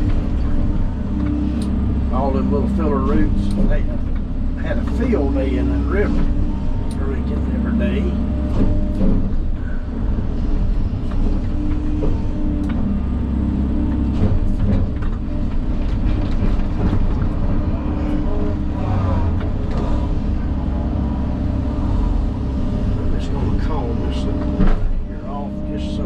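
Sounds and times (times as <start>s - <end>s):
earth-moving machine engine: 0.0s - 26.0s.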